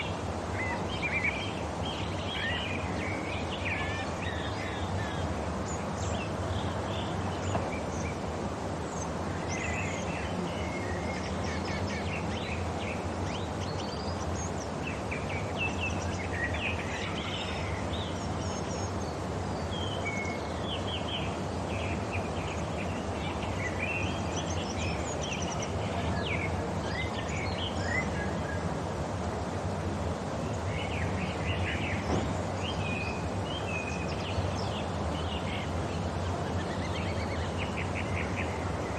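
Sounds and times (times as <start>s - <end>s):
birds chirping: 0.0s - 38.9s
outdoor background hiss: 0.0s - 38.9s.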